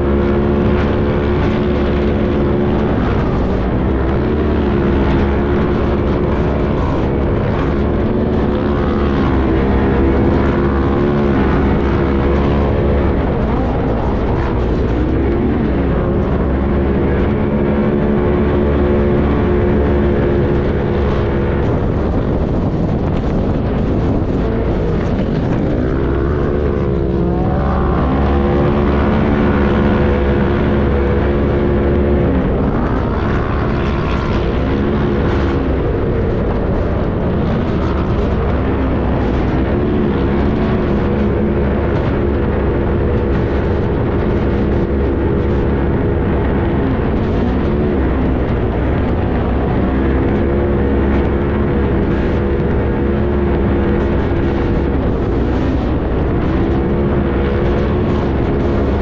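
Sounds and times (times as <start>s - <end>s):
off-road vehicle engine revving: 0.0s - 59.0s
steady rushing noise: 0.0s - 59.0s.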